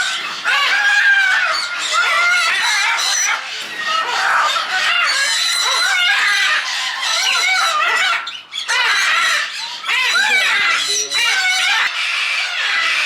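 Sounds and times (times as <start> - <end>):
parrots squawking and screeching: 0.0 - 13.0.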